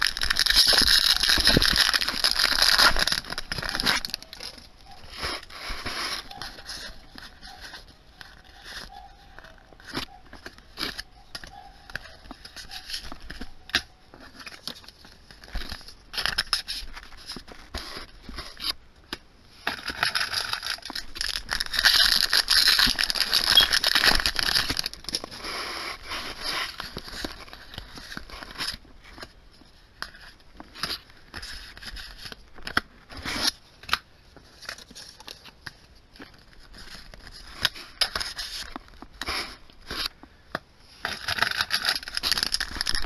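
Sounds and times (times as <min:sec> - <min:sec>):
cards sliding and rustling: 0:00.0 - 0:18.8, 0:19.6 - 0:43.0.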